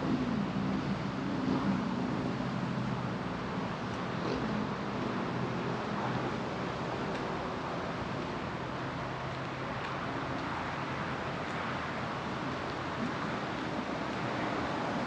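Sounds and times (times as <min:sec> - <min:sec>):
road traffic hiss: 0:00.0 - 0:15.0.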